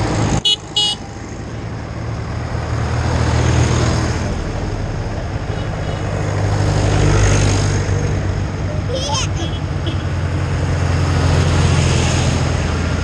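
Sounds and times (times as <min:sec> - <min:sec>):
tractor engines driving past: 0:00.0 - 0:13.0.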